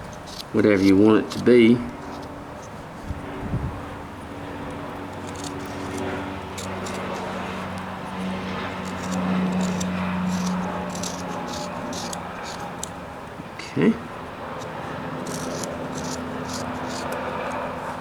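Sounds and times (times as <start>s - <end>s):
knife shaving wood: 0.0s - 3.2s, 5.0s - 13.3s, 14.5s - 18.0s
steady low hum: 0.0s - 18.0s.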